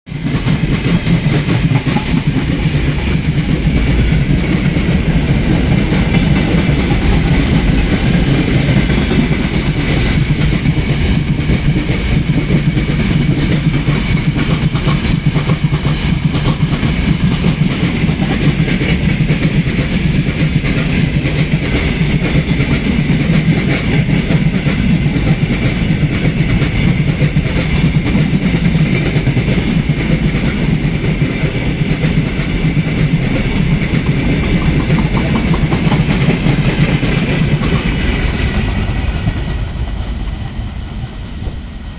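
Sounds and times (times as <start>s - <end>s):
train rumbling: 0.1s - 41.9s
train wheels clickety-clack: 0.1s - 41.9s.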